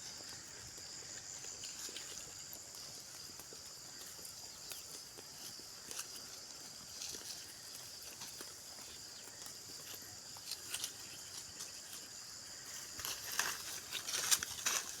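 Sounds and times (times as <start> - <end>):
insects chirring: 0.0 - 15.0
rustling and crunching: 0.0 - 15.0.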